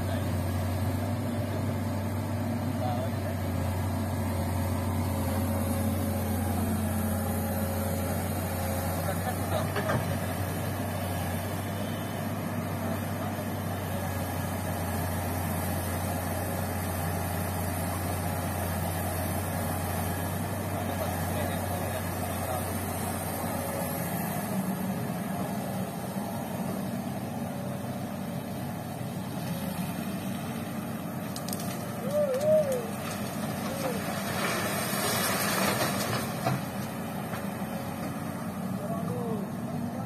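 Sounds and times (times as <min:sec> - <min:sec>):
diesel engines under load: 0:00.0 - 0:40.0.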